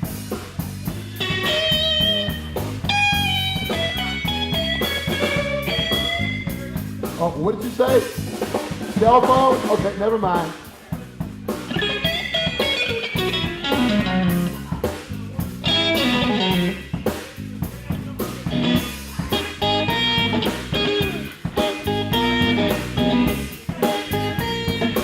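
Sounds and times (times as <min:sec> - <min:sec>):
electric guitar bending notes: 0:00.0 - 0:10.5, 0:11.5 - 0:25.0
bass guitar: 0:00.0 - 0:25.0
drum kit beat: 0:00.0 - 0:25.0.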